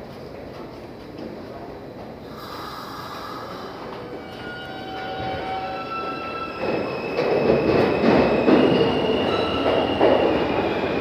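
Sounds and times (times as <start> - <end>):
subway train wheel rumble: 0.0 - 11.0.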